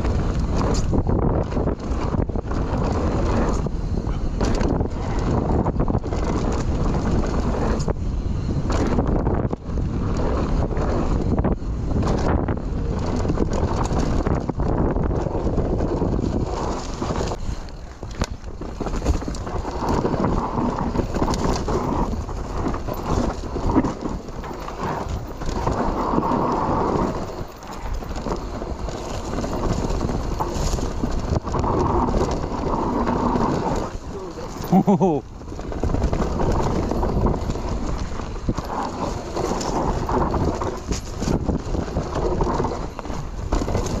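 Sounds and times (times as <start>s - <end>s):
bike clattering over bumps: 0.0s - 44.0s
tyres on dirt: 0.0s - 44.0s
wind on microphone: 0.0s - 44.0s.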